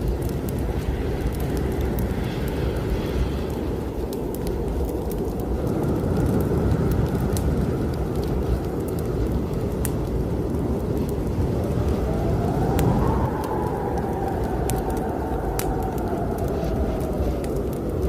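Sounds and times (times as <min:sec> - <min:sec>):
snowstorm wind blowing hard: 0:00.0 - 0:18.0
wood fire crackling and popping: 0:00.0 - 0:18.0.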